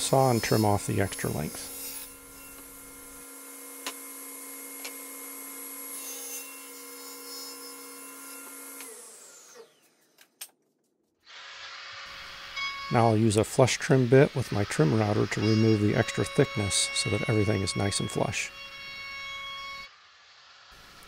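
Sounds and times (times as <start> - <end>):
table saw running: 0.0 - 9.8, 11.9 - 19.9.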